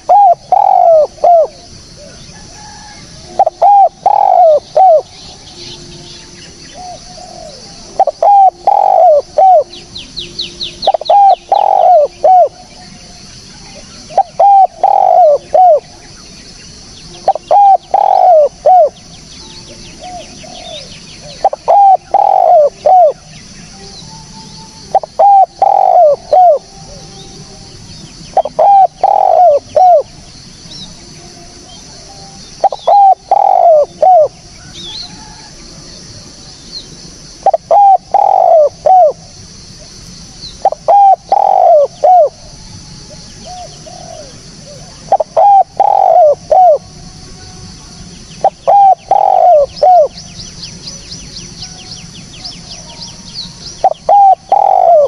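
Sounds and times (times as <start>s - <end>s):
dove cooing: 0.0s - 16.2s, 17.0s - 36.3s, 37.4s - 47.0s, 48.4s - 50.2s, 51.8s - 55.0s.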